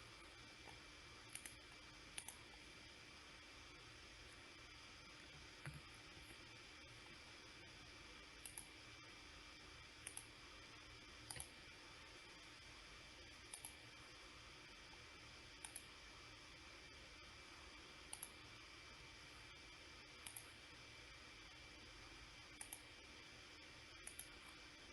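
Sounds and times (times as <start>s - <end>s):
low steady hiss: 0.0s - 24.9s.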